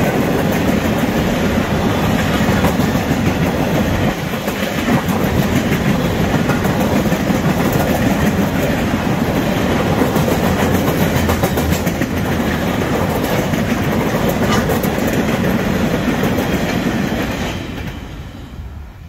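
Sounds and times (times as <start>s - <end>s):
wheels clacking over rail joints: 0.0s - 18.4s
freight train wagons rolling: 0.0s - 18.8s.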